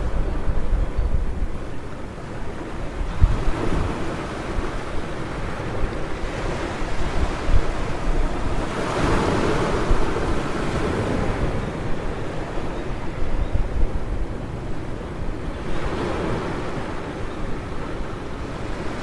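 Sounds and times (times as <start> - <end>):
ocean waves breaking on beach: 0.0 - 19.0
wind buffeting microphone: 0.0 - 19.0.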